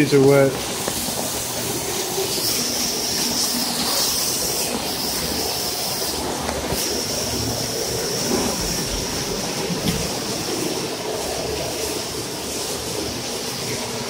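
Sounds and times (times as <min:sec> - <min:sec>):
steam hissing from a leak: 0:00.0 - 0:14.0.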